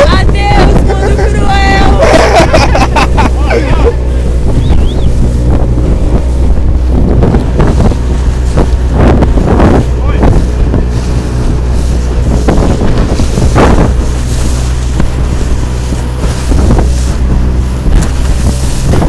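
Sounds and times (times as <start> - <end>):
motorboat engine running: 0.0 - 19.0
water splashing against hull: 0.0 - 19.0
wind noise on microphone: 0.0 - 19.0.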